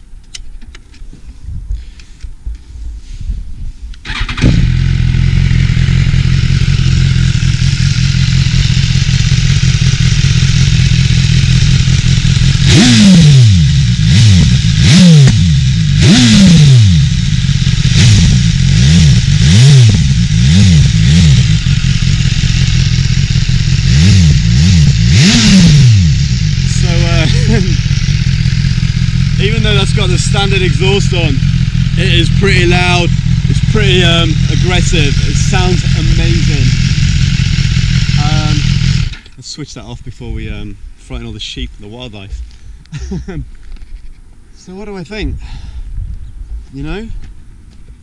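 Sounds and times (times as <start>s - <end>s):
motorcycle engine idling and revving: 4.0s - 48.0s.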